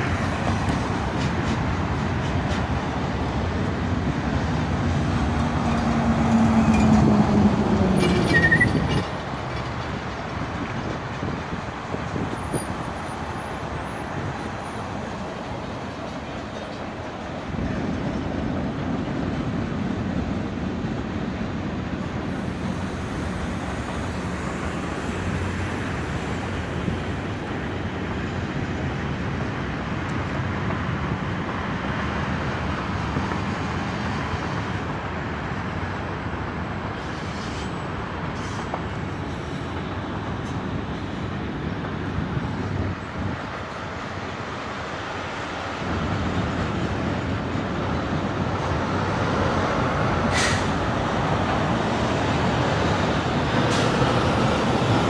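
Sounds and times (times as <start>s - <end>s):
freight train rumbling over bridge: 0.0s - 55.0s
road traffic: 0.0s - 55.0s.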